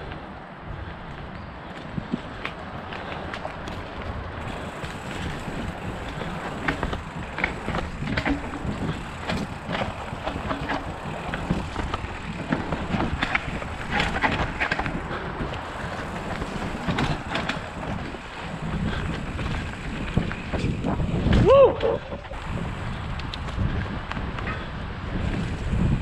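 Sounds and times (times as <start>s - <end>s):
bike tyres rumbling on dirt: 0.8s - 26.0s
bike rattling: 1.2s - 26.0s.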